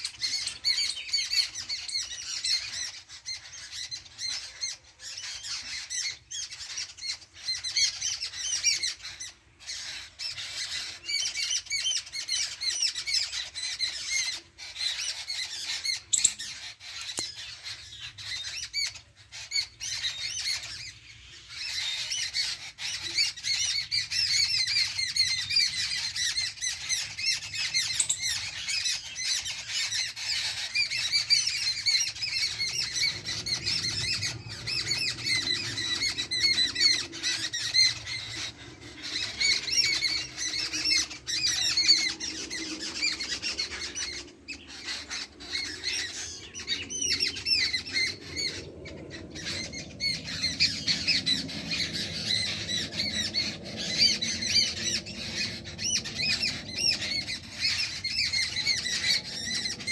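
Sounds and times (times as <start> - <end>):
small birds squawking: 0.0 - 59.9.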